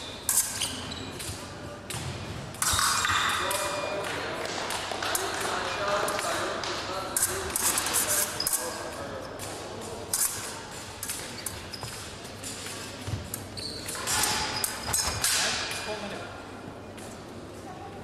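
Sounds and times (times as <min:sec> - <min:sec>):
fencing blades clashing: 0:00.0 - 0:16.0.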